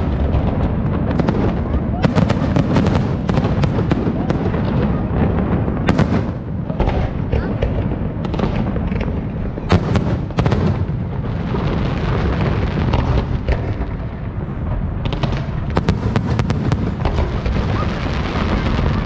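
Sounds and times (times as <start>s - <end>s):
fireworks rumbling: 0.0s - 19.0s
sharp firework cracks: 0.0s - 19.0s.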